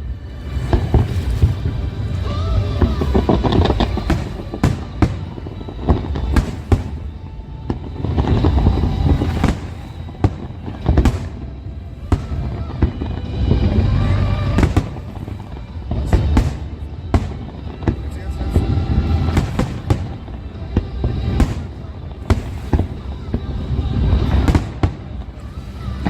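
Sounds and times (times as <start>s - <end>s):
fireworks bursting: 0.0s - 26.0s
low rumble: 0.0s - 26.0s
music: 0.0s - 26.0s.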